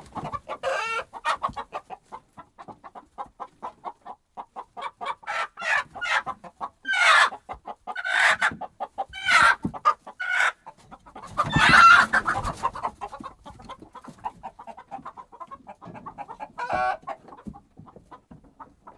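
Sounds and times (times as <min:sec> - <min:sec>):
hens clucking: 0:00.0 - 0:18.9.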